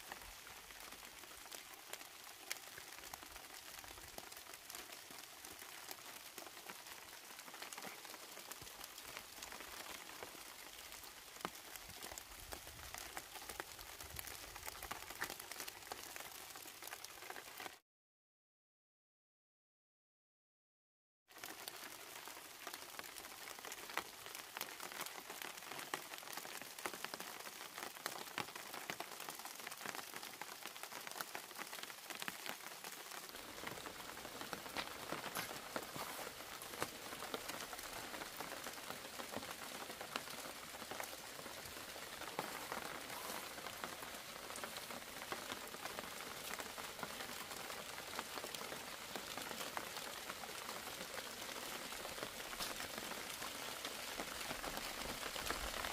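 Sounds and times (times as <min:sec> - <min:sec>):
steady rain falling: 0:00.0 - 0:17.8, 0:21.3 - 0:55.9.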